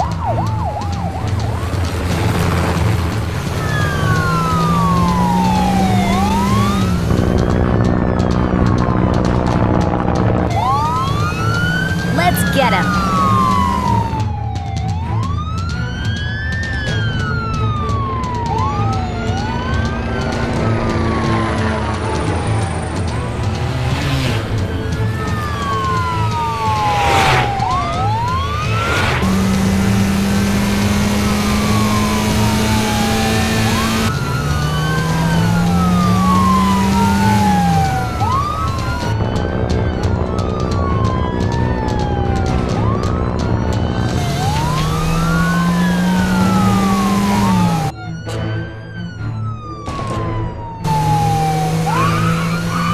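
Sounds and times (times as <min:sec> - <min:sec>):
police siren wailing: 0:00.0 - 0:52.9.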